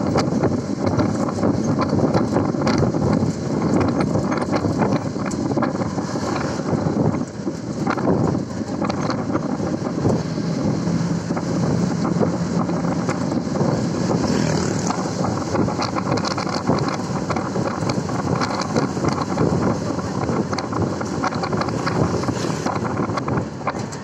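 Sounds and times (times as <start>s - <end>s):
vehicle road and engine noise: 0.0s - 24.0s
wind buffeting microphone: 0.0s - 24.0s.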